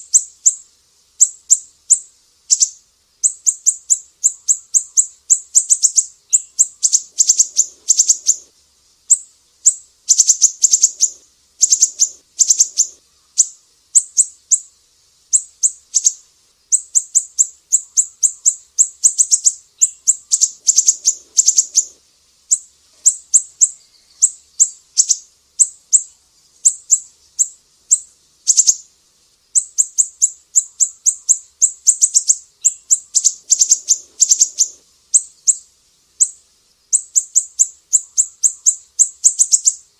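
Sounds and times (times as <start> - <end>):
songbird singing sharp chips: 0.0 - 8.5, 9.1 - 14.7, 15.3 - 28.9, 29.5 - 39.9.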